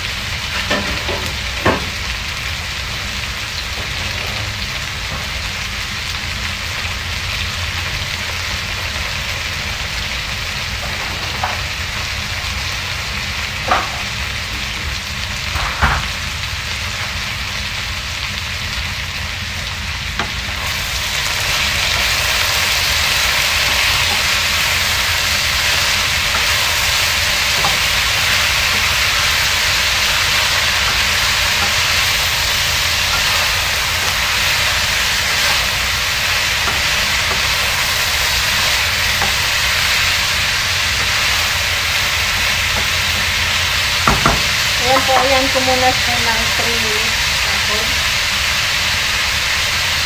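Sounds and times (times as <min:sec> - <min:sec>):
vegetables sizzling in frying pan: 0:00.0 - 0:50.0.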